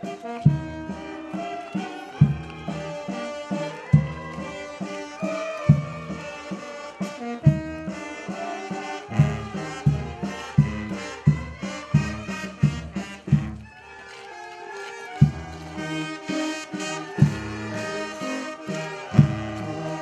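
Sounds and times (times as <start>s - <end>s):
brass band playing a march: 0.0s - 20.0s.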